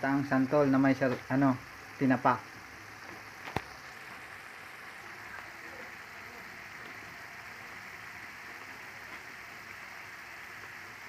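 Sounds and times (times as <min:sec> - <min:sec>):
sauce simmering and sizzling in wok: 0:00.0 - 0:11.0.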